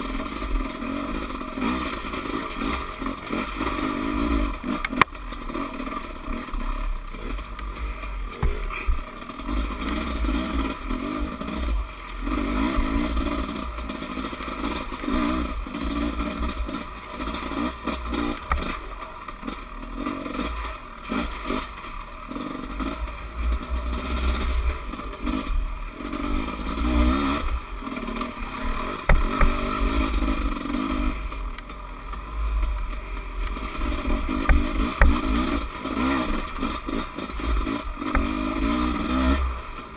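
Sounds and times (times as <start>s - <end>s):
bike rattling and knocking: 0.0s - 39.9s
dirt bike engine revving: 0.0s - 39.9s.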